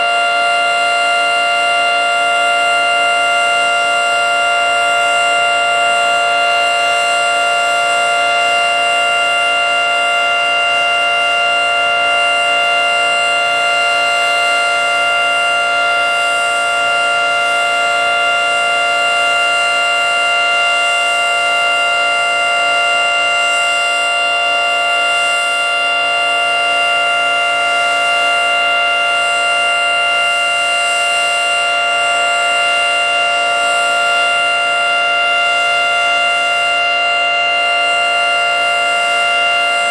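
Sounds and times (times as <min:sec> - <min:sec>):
steady three-tone warning siren: 0:00.0 - 0:39.9.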